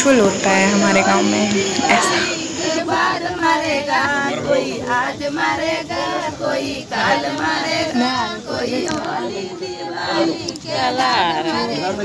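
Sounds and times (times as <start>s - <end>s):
group of women singing: 0.0s - 12.0s.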